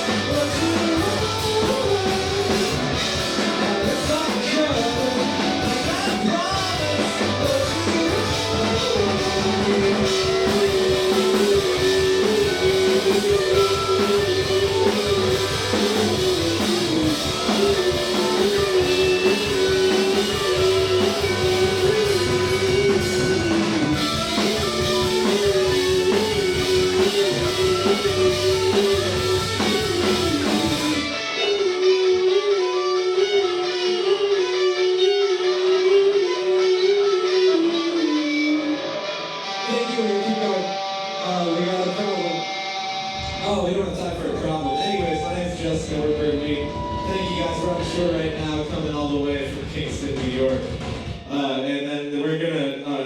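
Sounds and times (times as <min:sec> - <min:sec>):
electric guitar: 0:00.0 - 0:51.4
rock band playing live: 0:00.0 - 0:51.4.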